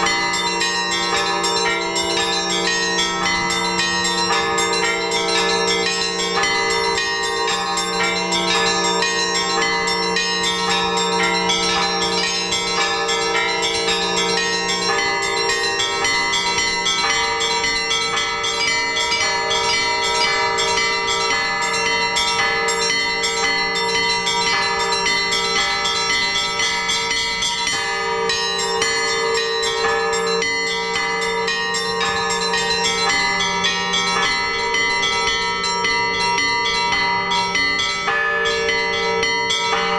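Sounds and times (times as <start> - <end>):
large bells humming: 0.0 - 39.9
small church bells striking: 0.0 - 39.9.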